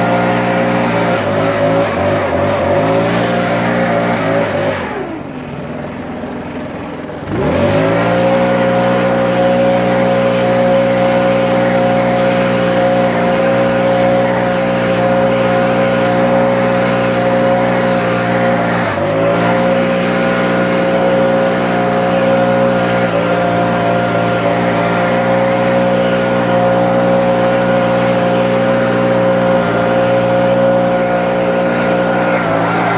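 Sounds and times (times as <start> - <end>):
lawn mower engine revving: 0.0 - 32.9.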